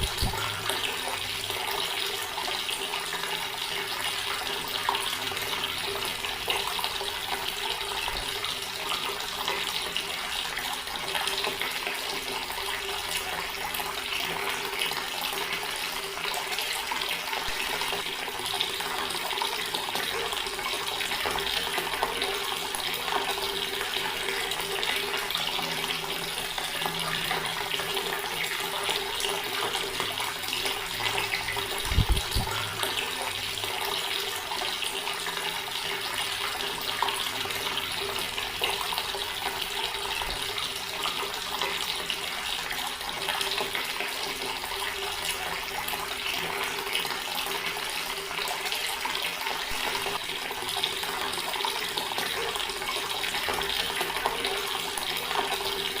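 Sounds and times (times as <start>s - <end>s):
tap water splashing into basin: 0.0s - 56.0s.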